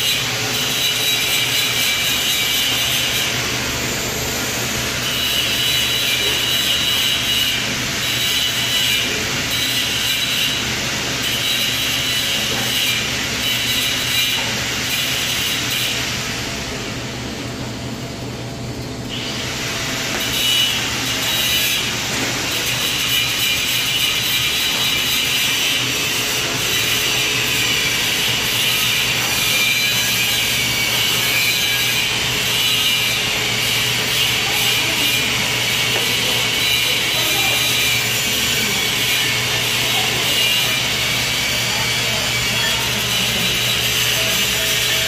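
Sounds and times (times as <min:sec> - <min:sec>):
welding arc hiss and buzz: 0:00.0 - 0:45.0.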